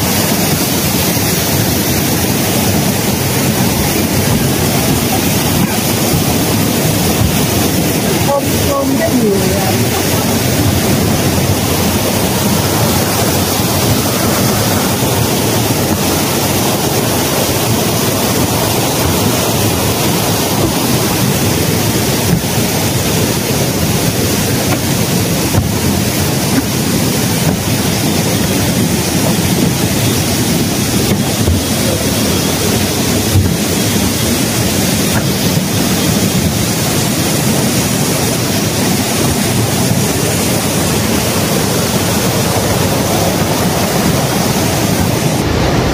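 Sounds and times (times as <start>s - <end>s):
rushing water: 0.0s - 45.9s.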